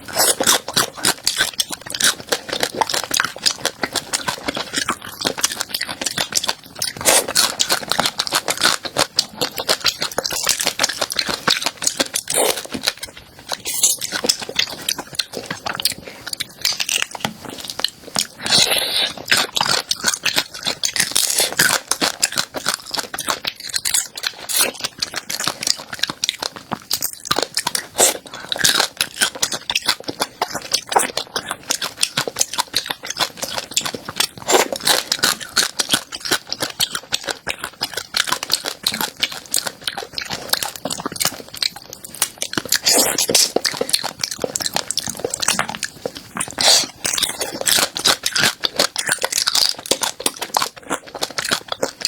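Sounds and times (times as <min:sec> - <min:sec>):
chewing crunchy food: 0:00.0 - 0:52.0.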